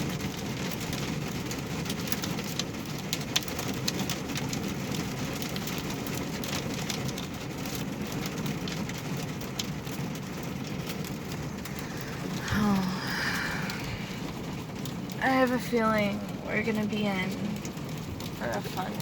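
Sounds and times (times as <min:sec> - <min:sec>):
rain and ice pattering: 0:00.0 - 0:19.0.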